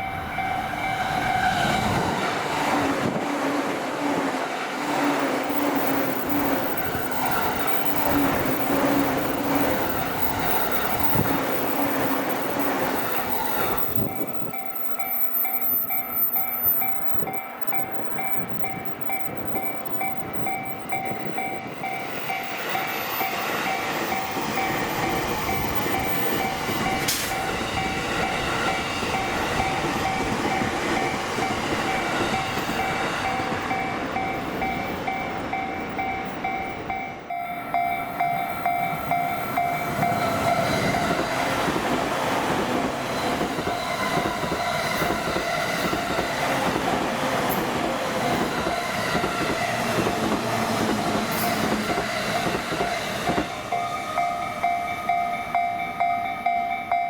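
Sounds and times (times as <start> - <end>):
level crossing warning bell: 0.0 - 2.2, 5.0 - 57.0
trains running: 0.0 - 57.0.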